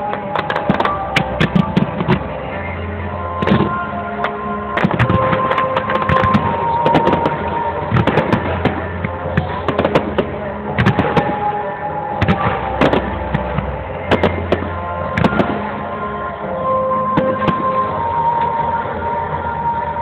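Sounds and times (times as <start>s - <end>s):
fireworks bangs: 0.0s - 2.4s, 3.4s - 15.8s, 17.1s - 18.6s
low rumble: 0.0s - 20.0s.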